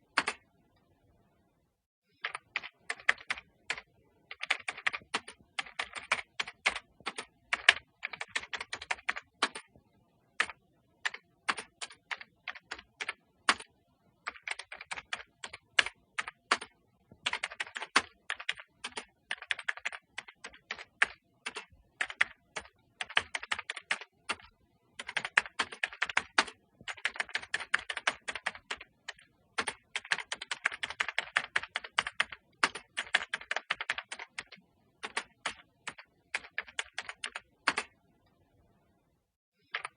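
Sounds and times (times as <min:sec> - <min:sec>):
keyboard typing clicks: 0:00.1 - 0:00.4, 0:02.1 - 0:09.8, 0:14.3 - 0:38.0, 0:39.6 - 0:39.9.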